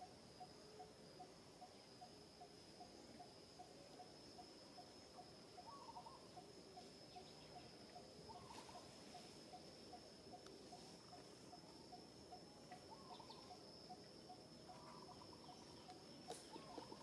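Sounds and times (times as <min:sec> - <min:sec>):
high-pitched insect drone: 0:00.0 - 0:17.0
insect chirps: 0:00.0 - 0:17.0
soft repeating insect note: 0:00.0 - 0:17.0.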